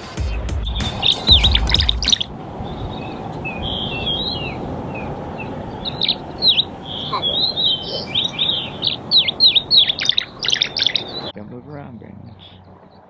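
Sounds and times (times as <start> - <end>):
high bird chirps: 0.8 - 11.3
soft warbled bird notes: 0.8 - 11.3.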